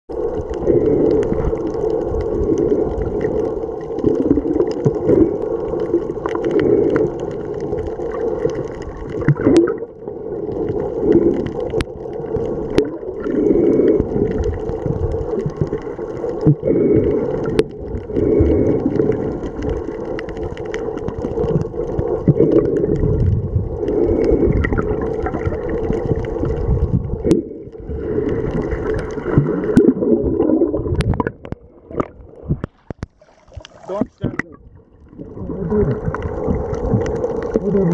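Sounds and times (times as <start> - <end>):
muffled underwater rushing and bubbles: 0.1 - 37.9.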